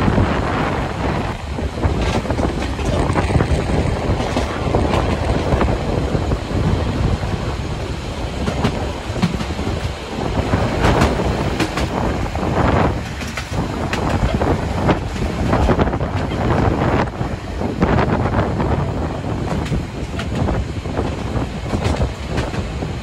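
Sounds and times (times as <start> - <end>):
train wheels clattering over rail joints: 0.1 - 23.0.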